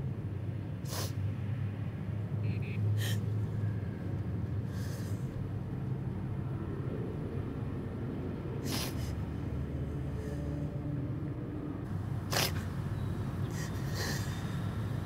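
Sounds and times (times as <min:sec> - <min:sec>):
distant city traffic rumble: 0:00.0 - 0:15.0.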